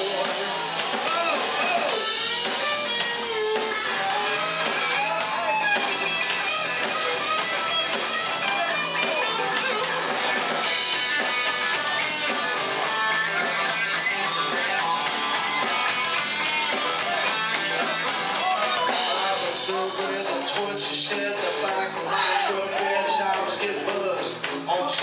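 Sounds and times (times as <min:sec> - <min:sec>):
electric guitar lead: 0:00.0 - 0:24.6
drums steady beat: 0:00.0 - 0:25.0.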